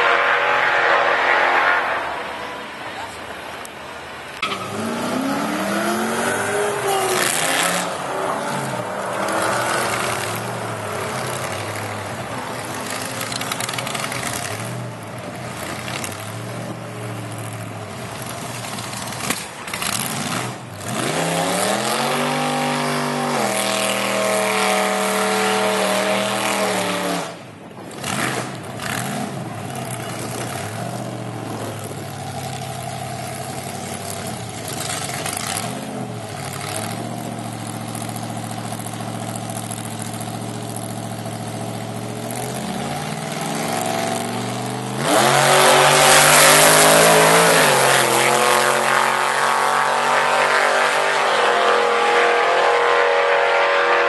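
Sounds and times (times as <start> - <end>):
supercharged engine revving: 4.4 - 14.8, 19.0 - 27.4, 28.0 - 54.0.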